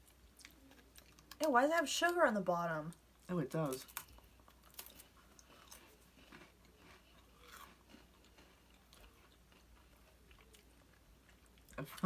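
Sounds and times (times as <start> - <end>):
crackers crunching and chewing: 0.0 - 2.2, 2.9 - 12.0.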